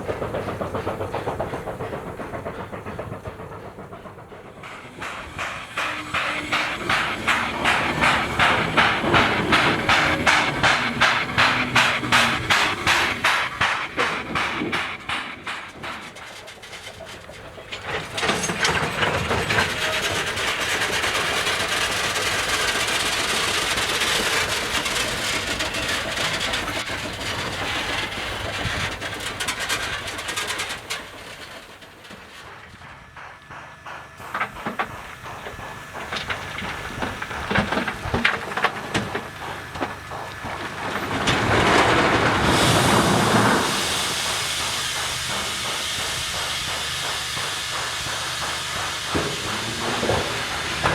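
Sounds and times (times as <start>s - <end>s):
loud steam hiss: 0.0s - 50.9s
steam locomotive rushing on rails: 0.0s - 50.9s
wagons clanking and knocking: 0.0s - 50.9s.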